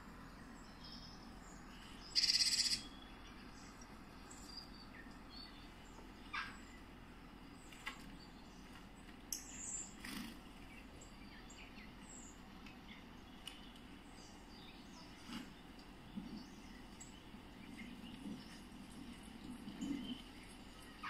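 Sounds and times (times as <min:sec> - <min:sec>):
birdsong through a speaker: 0:00.0 - 0:21.0.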